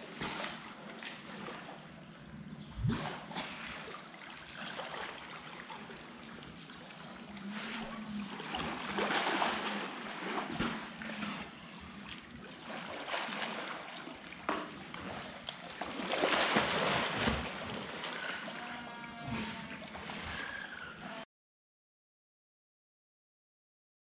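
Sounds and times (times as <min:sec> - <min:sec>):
water splashing and sloshing: 0:00.0 - 0:21.2.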